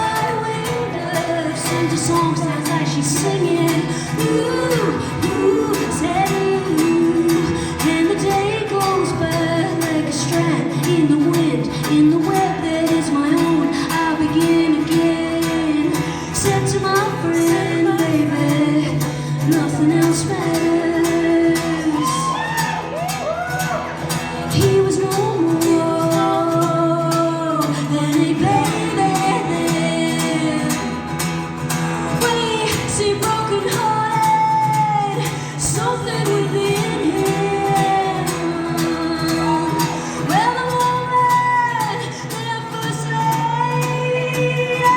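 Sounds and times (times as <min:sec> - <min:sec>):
guitar: 0:00.0 - 0:44.9
woman singing: 0:00.0 - 0:44.9.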